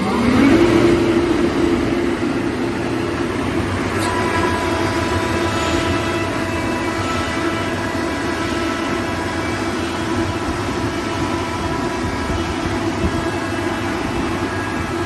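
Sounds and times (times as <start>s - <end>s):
compressor whining tones: 0.0s - 15.0s.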